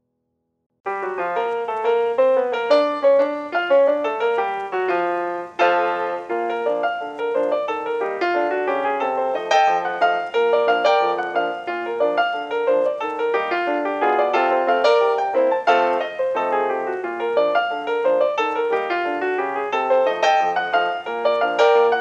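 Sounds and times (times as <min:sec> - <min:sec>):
upbeat solo piano music: 0:00.9 - 0:22.0.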